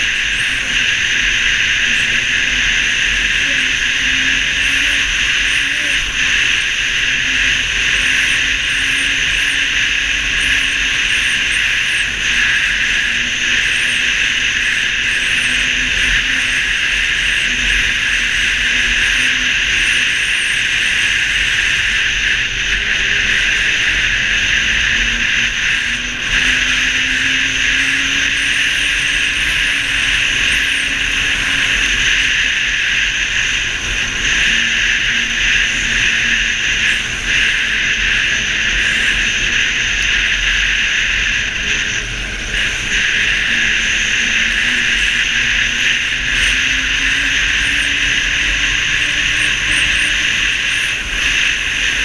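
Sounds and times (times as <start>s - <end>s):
low engine tone: 0.0s - 52.0s
snowmobile rushing noise: 0.0s - 52.0s.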